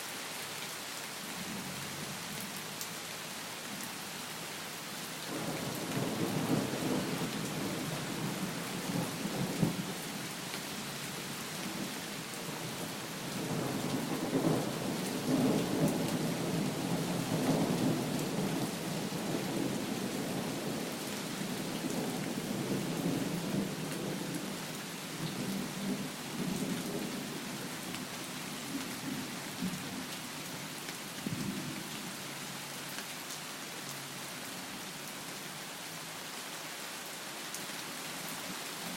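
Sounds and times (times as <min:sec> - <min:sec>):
heavy rain hissing: 0:00.0 - 0:32.9.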